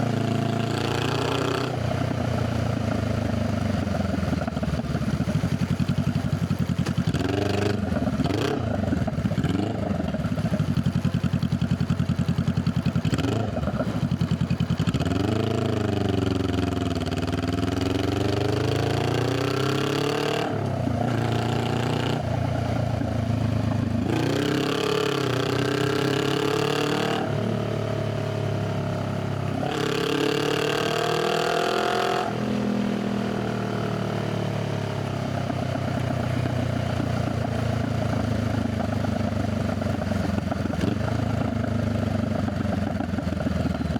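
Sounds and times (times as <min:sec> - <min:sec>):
motorcycle exhaust revving: 0:00.0 - 0:43.9.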